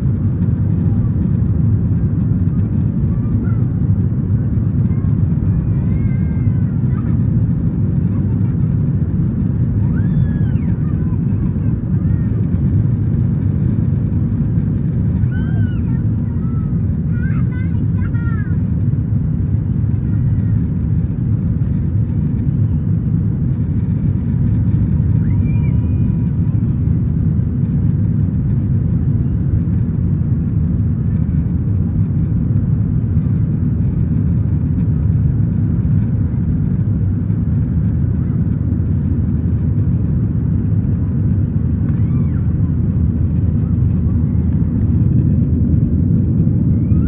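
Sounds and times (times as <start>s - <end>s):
jet engines roaring in cabin: 0.0s - 47.0s.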